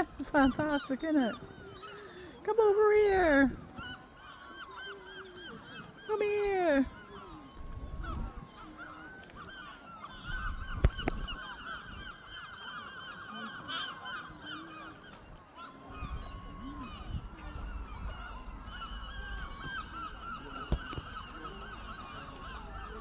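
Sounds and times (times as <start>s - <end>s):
seagulls calling: 0.0s - 23.0s.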